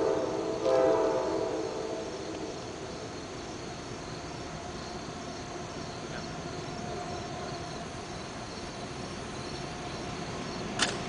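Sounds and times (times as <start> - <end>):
insects calling in short pulses: 0.0 - 11.0.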